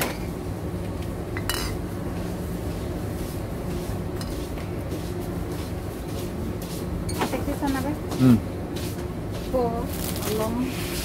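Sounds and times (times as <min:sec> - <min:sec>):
supermarket background hum: 0:00.0 - 0:11.0.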